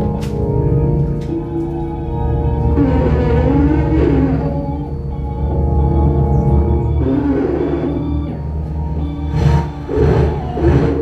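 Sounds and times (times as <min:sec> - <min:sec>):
heavy low rumble: 0:00.0 - 0:11.0
sustained organ-like tones: 0:00.0 - 0:11.0.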